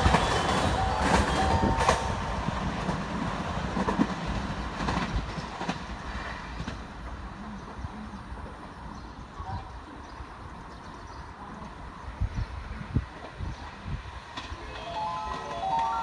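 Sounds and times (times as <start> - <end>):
train wheels clicking on rails: 0.0 - 8.9, 11.6 - 16.0.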